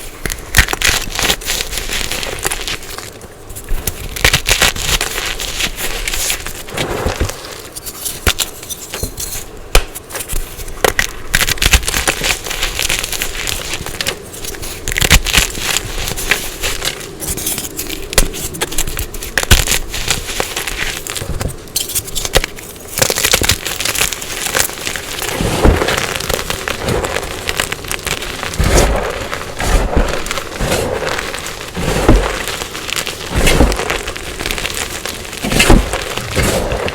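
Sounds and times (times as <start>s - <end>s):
chalk crunching and snapping: 0.0s - 36.9s.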